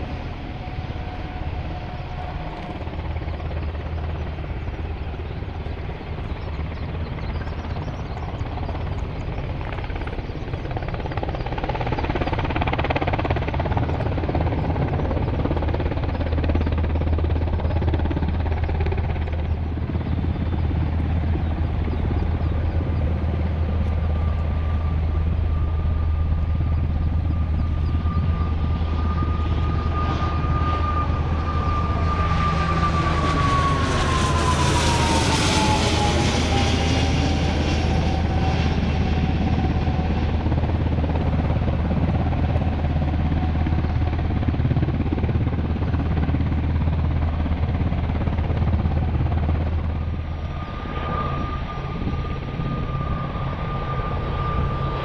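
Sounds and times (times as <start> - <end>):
aircraft engine whine: 0.0 - 55.0.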